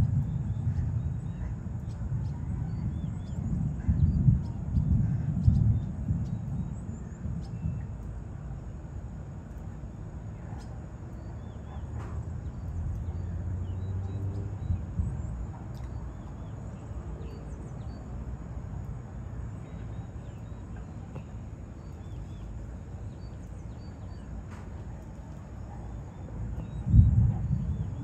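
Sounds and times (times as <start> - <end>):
birds chirping: 0.0 - 28.0
low rumbling background: 0.0 - 28.0.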